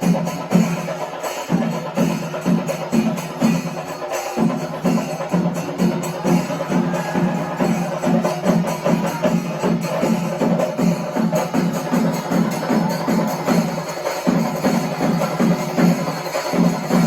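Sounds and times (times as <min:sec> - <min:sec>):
music with driving beat: 0:00.0 - 0:17.0.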